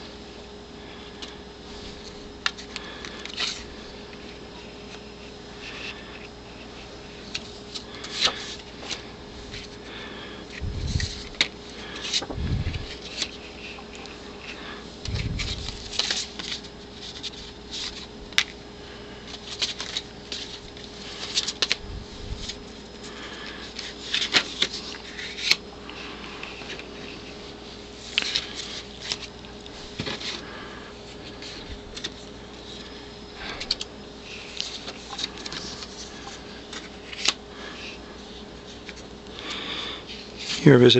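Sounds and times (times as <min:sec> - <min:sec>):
paper postcards rustling: 0:00.8 - 0:40.9.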